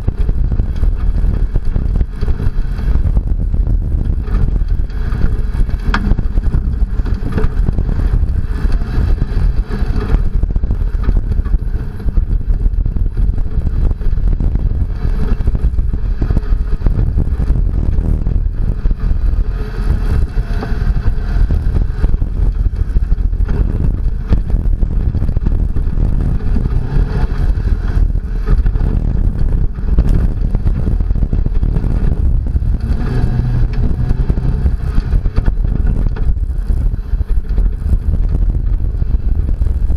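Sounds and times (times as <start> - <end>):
truck engine and tyres rumbling: 0.0 - 39.9
truck jolts and rattles: 0.0 - 39.9.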